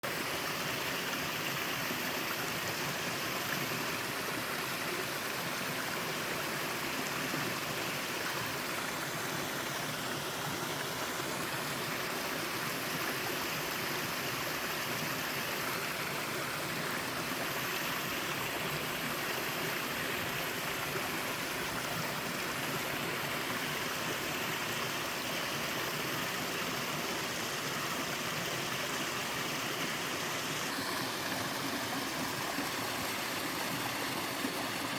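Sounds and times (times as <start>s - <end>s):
small waterfall pouring: 0.0s - 34.9s.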